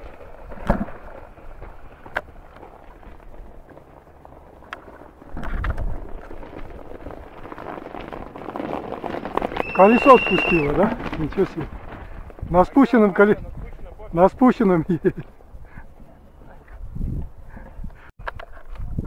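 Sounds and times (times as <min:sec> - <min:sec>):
bike tyres crunching on dirt: 0:00.0 - 0:17.4.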